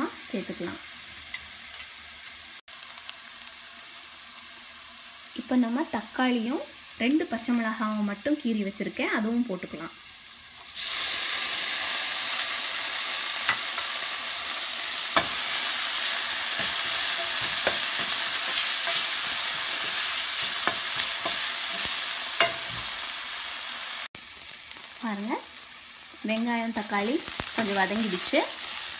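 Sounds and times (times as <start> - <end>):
vegetables sizzling in hot oil: 0.0 - 28.9.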